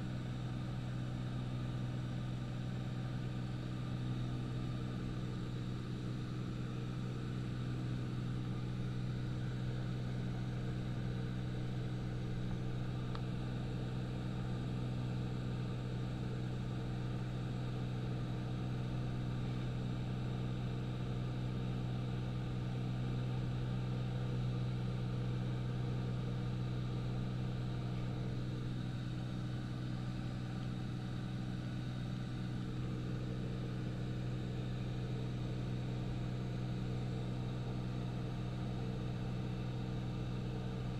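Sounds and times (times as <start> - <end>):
light aircraft engine drone: 0.0 - 40.9.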